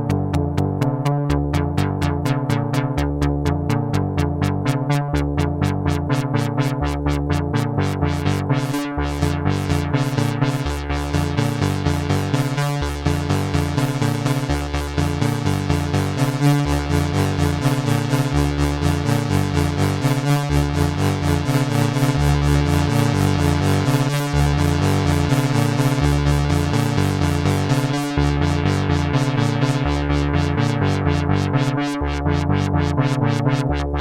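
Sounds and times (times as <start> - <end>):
synthesizer sequenced pattern: 0.0 - 34.0.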